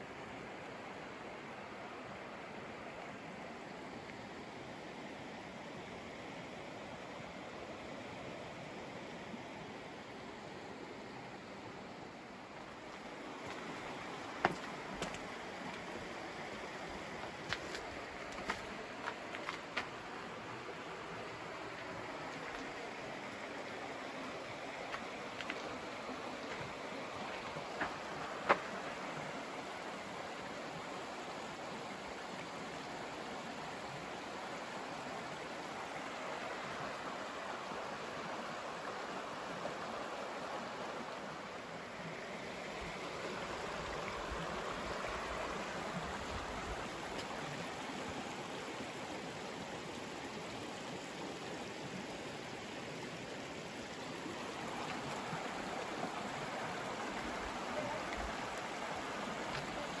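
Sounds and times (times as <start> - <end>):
creek water rushing over stones: 0.0 - 60.0.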